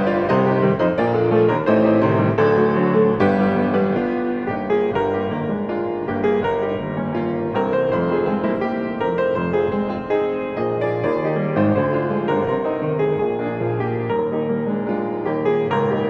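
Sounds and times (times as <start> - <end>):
solo classical piano: 0.0 - 16.0.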